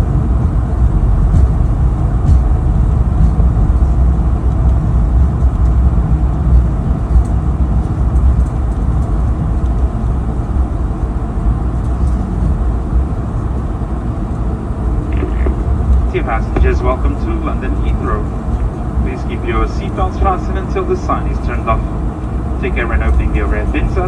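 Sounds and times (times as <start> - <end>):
airplane cabin rumble taxiing: 0.0 - 24.0.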